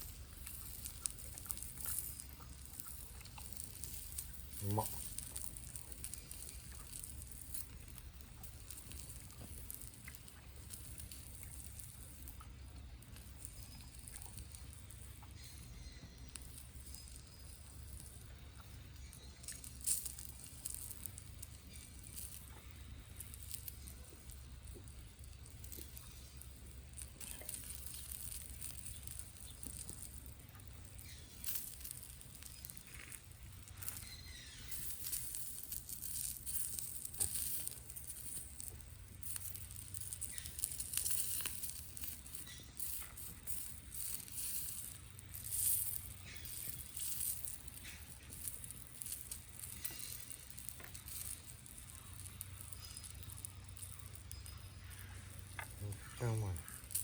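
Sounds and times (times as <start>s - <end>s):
small fire pops: 0.0s - 57.0s
wood fire crackling and sizzling: 0.0s - 57.0s.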